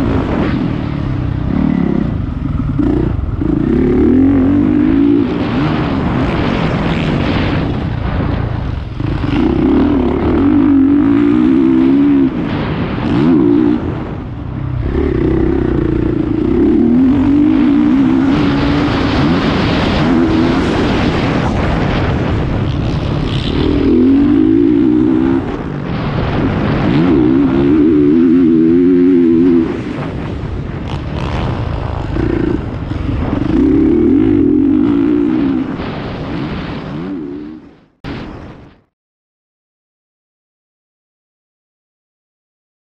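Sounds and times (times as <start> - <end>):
motorcycle engine revving: 0.0 - 37.6.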